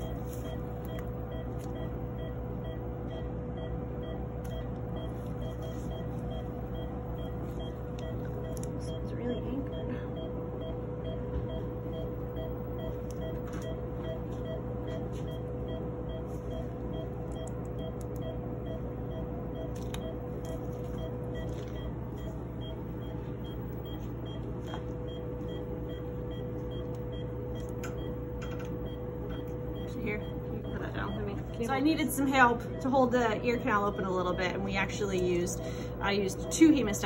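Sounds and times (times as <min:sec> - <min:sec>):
monitor beeping: 0:00.0 - 0:37.0
steady electronic tone and hum: 0:00.0 - 0:37.0.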